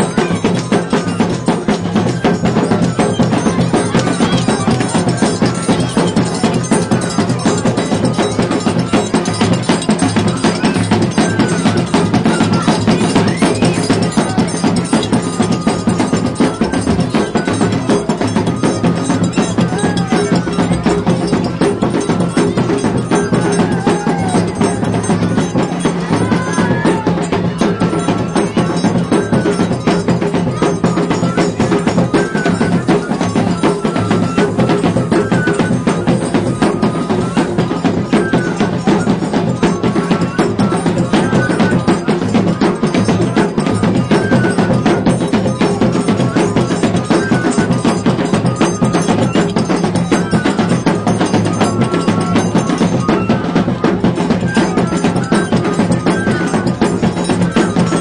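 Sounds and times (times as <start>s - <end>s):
fast percussion beat: 0.0s - 58.0s.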